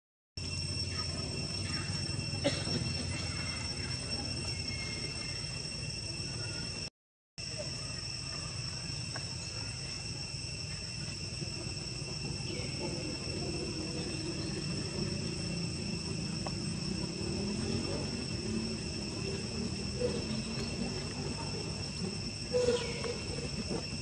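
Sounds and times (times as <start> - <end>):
insects droning: 0.4 - 24.0.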